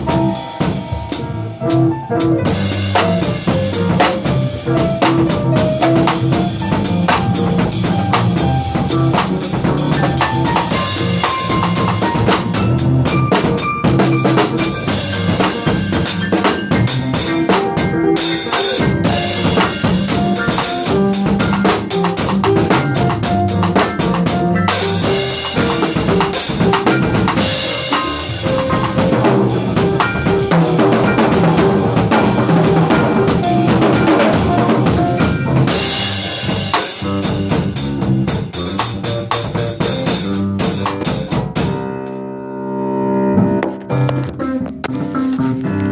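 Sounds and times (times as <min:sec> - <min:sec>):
bass line: 0:00.0 - 0:42.0
drum kit groove: 0:00.0 - 0:42.2, 0:43.4 - 0:45.9.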